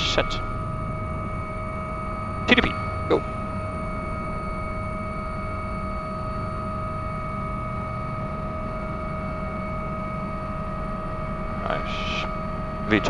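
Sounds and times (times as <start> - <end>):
helicopter rotors and engines: 0.0 - 13.0
high turbine whine: 0.0 - 13.0.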